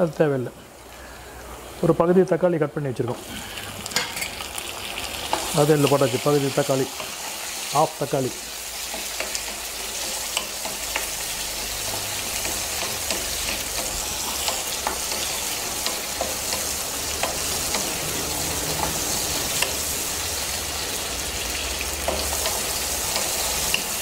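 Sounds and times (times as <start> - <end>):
vegetables sizzling in hot oil: 3.0 - 24.0.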